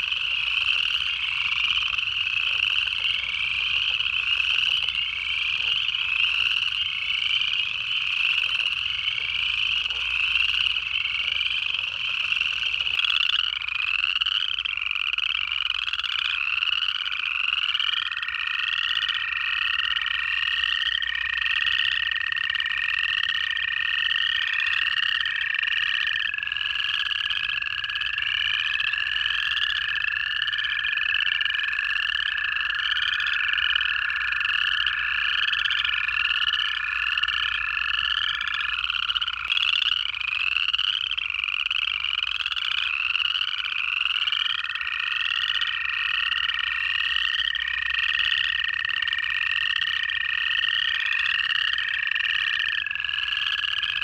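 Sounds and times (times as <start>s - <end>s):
chorus frogs trilling: 0.0s - 54.0s
toad trills: 0.0s - 54.0s.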